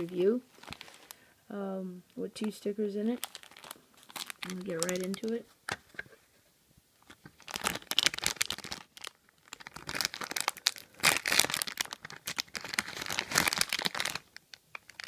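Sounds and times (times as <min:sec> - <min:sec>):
plastic wrapper crinkling: 0:00.0 - 0:01.2, 0:02.4 - 0:06.0, 0:07.0 - 0:15.0.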